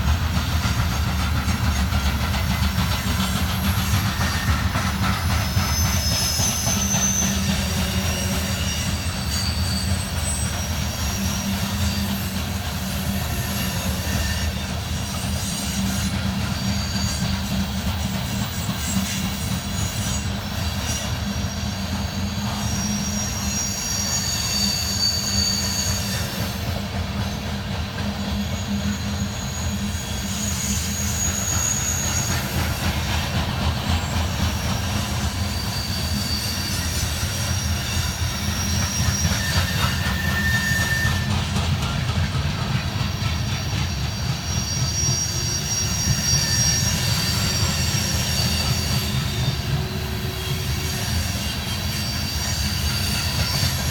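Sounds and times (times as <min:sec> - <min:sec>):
train rumbling on steel wheels: 0:00.0 - 0:53.9
high-pitched wheel squeals: 0:00.5 - 0:53.9.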